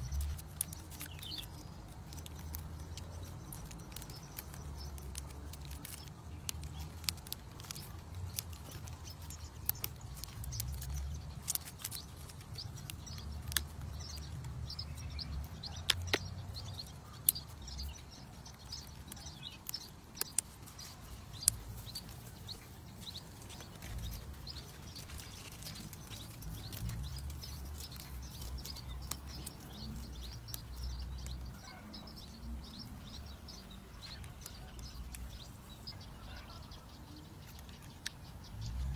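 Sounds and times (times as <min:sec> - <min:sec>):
bird chirps: 0:00.0 - 0:38.9.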